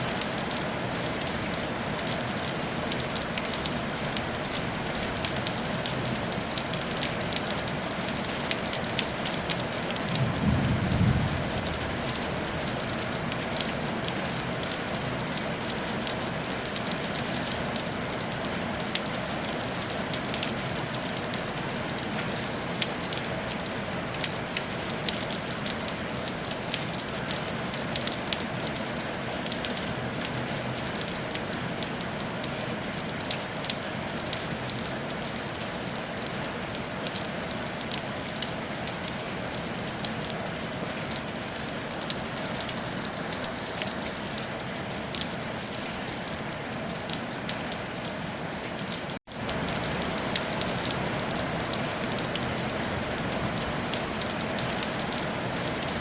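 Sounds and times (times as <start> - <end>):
rain on a tile roof: 0.0 - 56.0.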